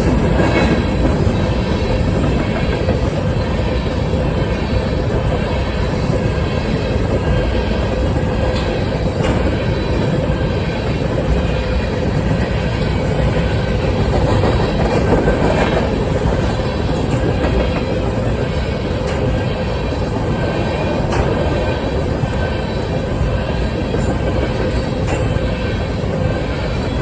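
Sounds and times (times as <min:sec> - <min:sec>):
freight train rolling on rails: 0:00.0 - 0:27.0.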